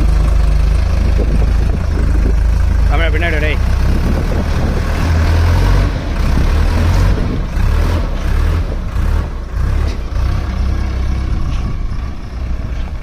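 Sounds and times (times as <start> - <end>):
tractor engine straining under load: 0.0 - 13.0.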